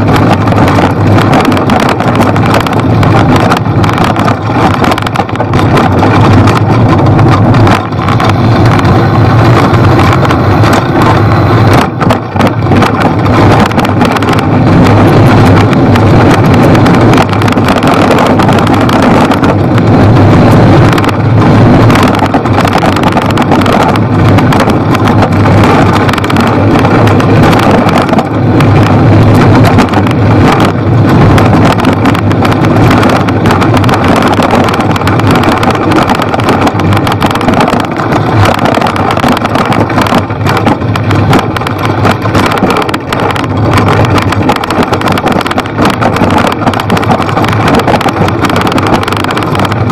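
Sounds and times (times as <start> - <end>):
bicycle tyres rumbling on dirt: 0.0 - 49.9
wind buffeting microphone: 0.0 - 49.9.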